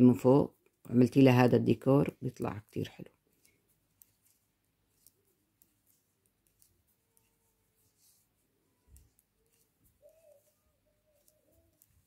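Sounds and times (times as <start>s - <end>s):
knitting needles clicking: 1.8s - 12.0s.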